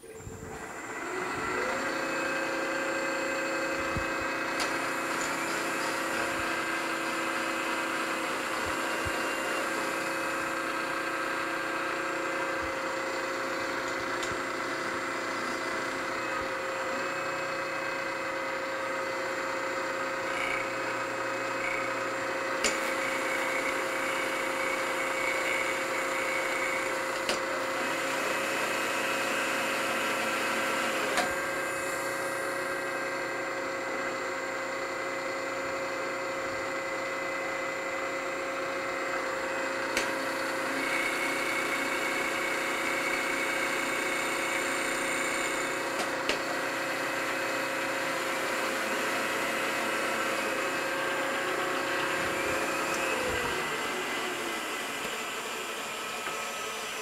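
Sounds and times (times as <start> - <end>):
milling machine cutting metal: 0.0 - 57.0.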